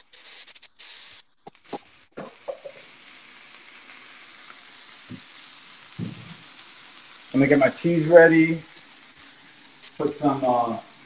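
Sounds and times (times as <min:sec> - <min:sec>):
burger patties sizzling in a pan: 0:00.0 - 0:11.0.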